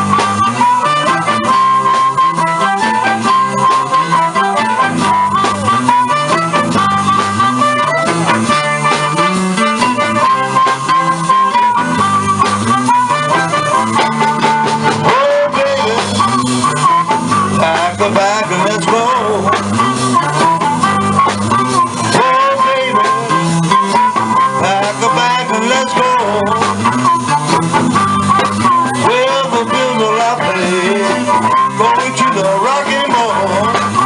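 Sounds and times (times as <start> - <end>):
blues guitar lead with bent notes: 0.0 - 34.0
repeating bass line: 0.0 - 34.0.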